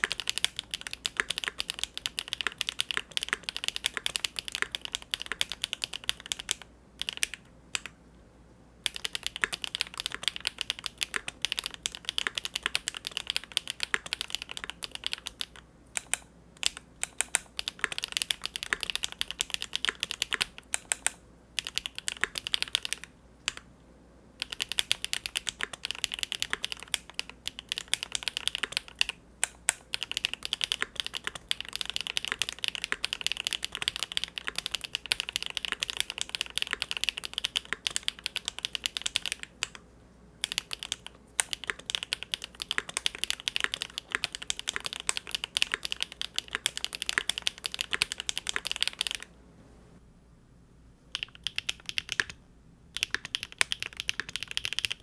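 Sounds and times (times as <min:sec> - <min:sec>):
typing on mechanical keyboard: 0:00.0 - 0:07.9, 0:08.8 - 0:23.7, 0:24.4 - 0:39.8, 0:40.4 - 0:49.3, 0:51.1 - 0:55.0.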